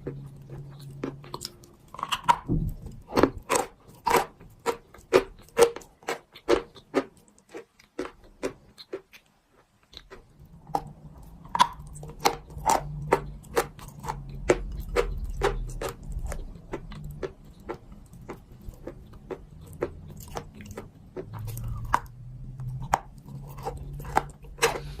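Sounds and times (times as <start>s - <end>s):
low steady hum: 0.0s - 7.6s, 10.0s - 25.0s.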